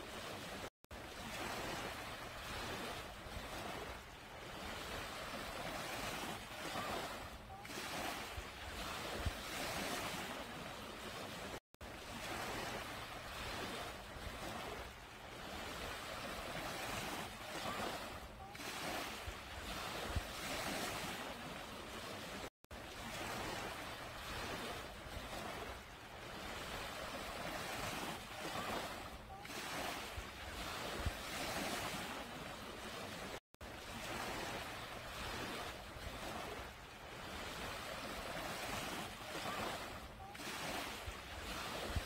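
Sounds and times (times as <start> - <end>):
small waves washing on sand: 0.0 - 42.0.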